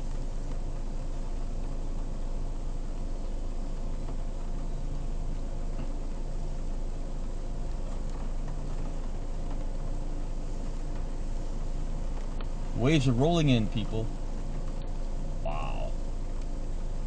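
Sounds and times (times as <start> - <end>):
faint irregular ticks: 0.0 - 15.0, 16.3 - 17.0
idling vehicle hum: 0.0 - 17.0.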